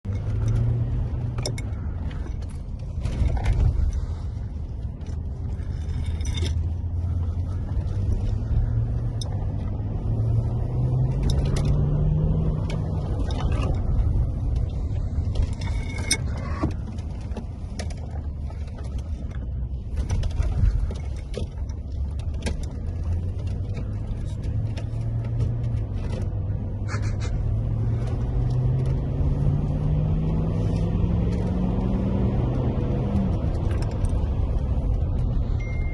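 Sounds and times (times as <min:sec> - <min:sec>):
diesel engine running: 0:00.0 - 0:35.9
light knocks and rattles: 0:00.1 - 0:29.0.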